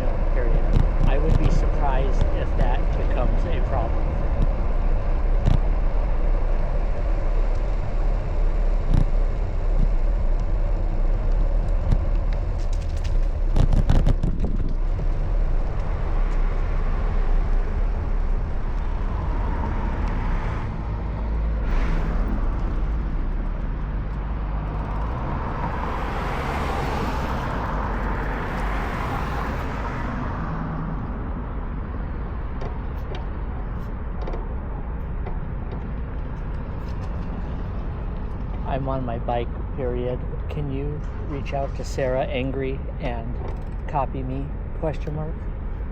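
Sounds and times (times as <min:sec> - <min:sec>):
vehicle passing: 0:00.0 - 0:43.2
road traffic: 0:00.0 - 0:45.9
wind rumble on microphone: 0:00.0 - 0:45.9.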